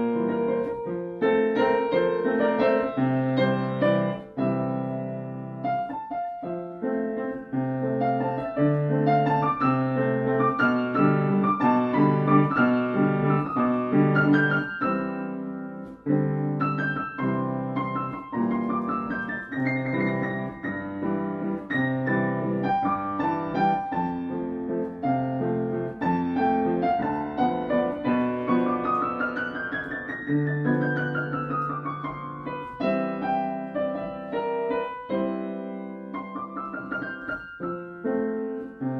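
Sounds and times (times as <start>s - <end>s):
gentle piano music: 0.0s - 38.9s.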